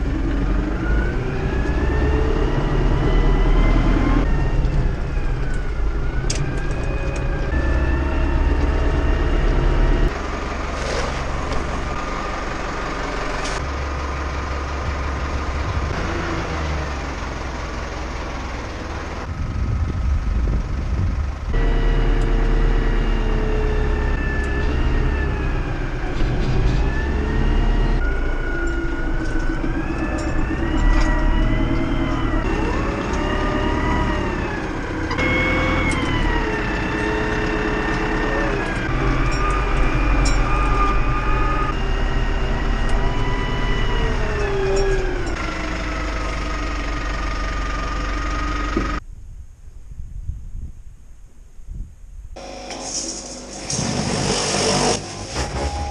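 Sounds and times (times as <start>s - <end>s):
tractor engine under load: 0.0s - 49.0s, 52.4s - 55.9s.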